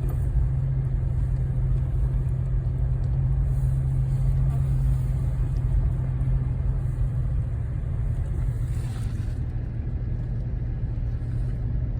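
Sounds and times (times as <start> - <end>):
diesel engine rumbling: 0.0 - 11.9.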